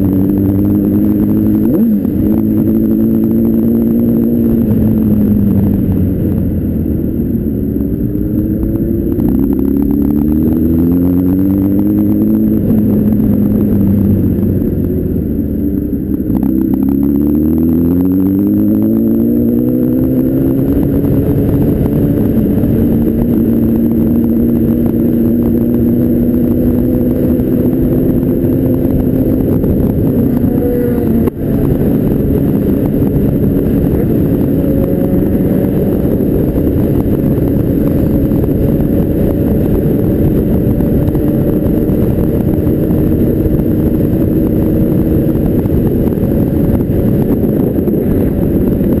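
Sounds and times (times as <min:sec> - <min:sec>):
motorcycle engine: 0:00.0 - 0:49.0
wind and road noise: 0:00.0 - 0:49.0.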